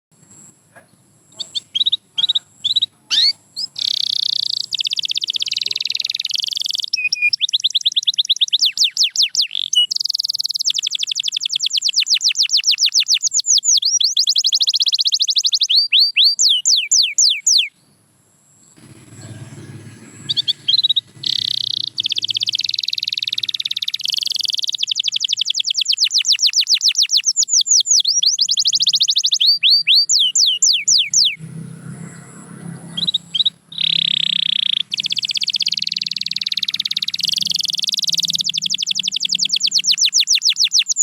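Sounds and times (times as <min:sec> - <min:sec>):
canary singing: 0:00.4 - 0:41.0.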